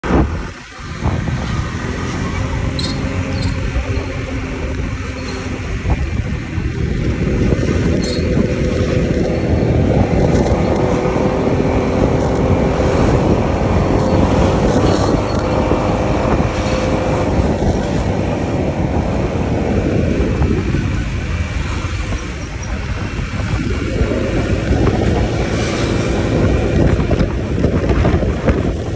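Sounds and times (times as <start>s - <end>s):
road noise: 0.0s - 28.9s
scooter engine hum: 0.0s - 28.9s
wind: 0.0s - 28.9s.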